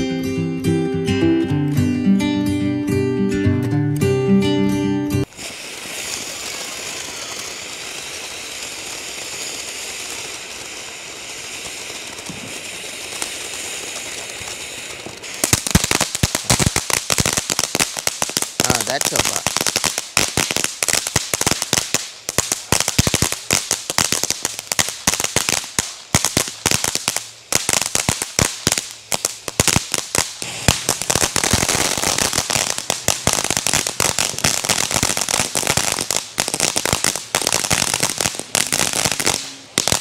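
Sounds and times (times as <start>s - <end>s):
fireworks hissing and crackling: 5.2s - 40.0s.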